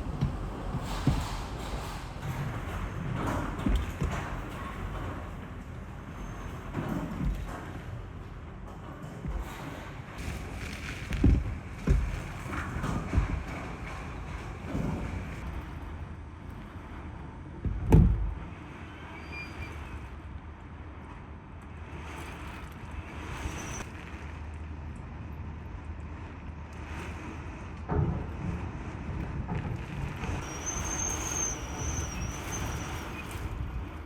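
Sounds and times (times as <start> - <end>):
wind buffeting microphone: 0.0 - 19.0, 23.8 - 34.0.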